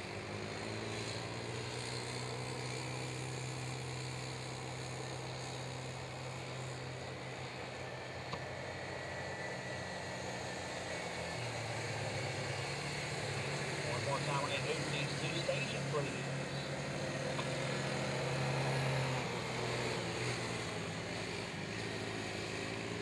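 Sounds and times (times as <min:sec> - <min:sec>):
small atv engine running: 0:00.0 - 0:23.0.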